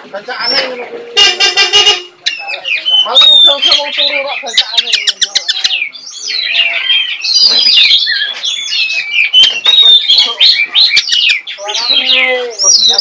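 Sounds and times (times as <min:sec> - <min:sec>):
songbird singing whistles: 0:02.2 - 0:13.0.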